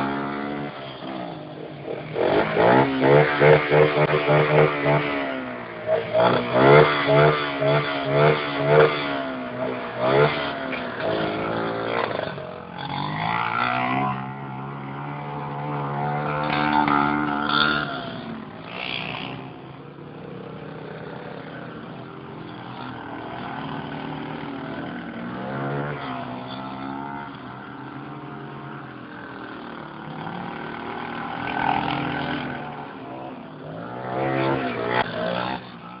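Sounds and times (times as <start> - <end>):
quad bike engine revving: 0.0 - 36.0.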